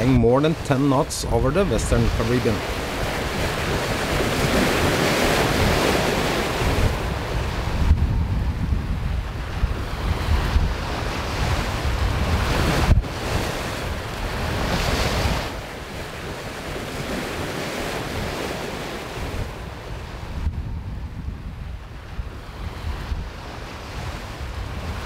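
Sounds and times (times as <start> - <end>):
waves rushing along hull: 0.0 - 25.0
wind buffeting microphone: 0.0 - 25.0.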